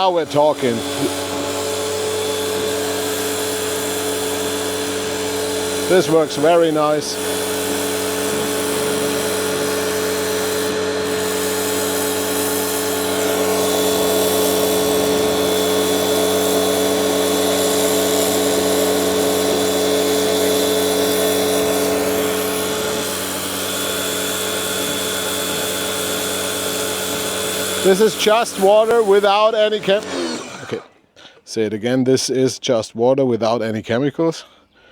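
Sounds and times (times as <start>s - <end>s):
water jet hissing: 0.0s - 31.0s
pressure washer motor whine: 0.0s - 31.1s.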